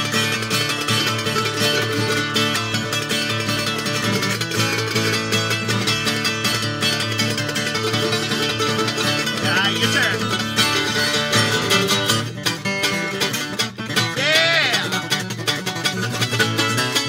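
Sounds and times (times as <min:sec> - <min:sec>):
acoustic guitar picking: 0:00.0 - 0:17.0
mandolin melody: 0:00.0 - 0:17.0.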